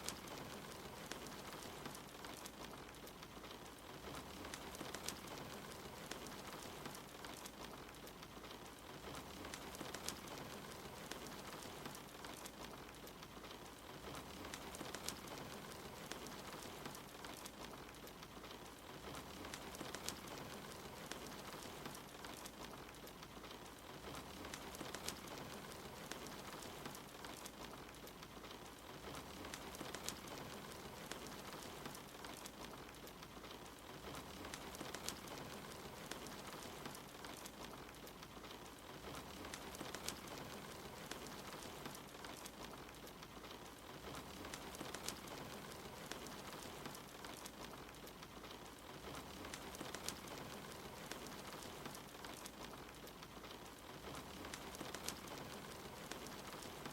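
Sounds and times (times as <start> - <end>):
rain hissing: 0.0 - 56.9
wood fire crackling: 0.0 - 56.9.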